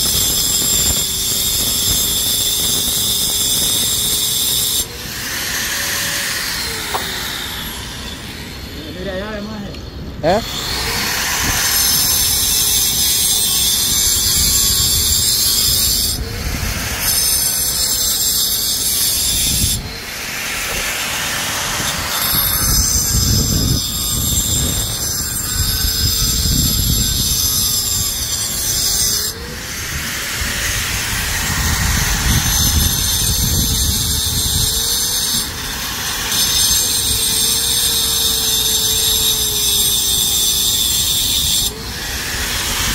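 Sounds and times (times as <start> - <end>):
angle grinder grinding concrete: 0.0 - 42.9.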